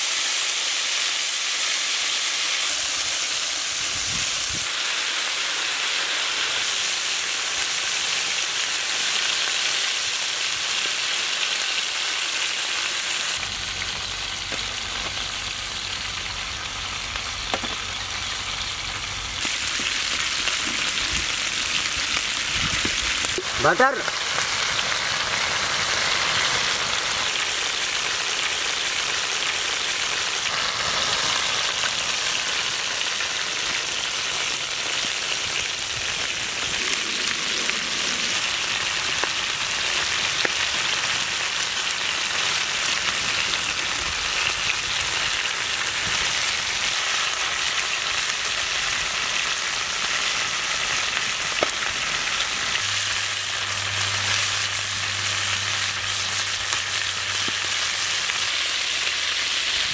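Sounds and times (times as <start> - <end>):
chicken sizzling in a pan: 0.0 - 59.9.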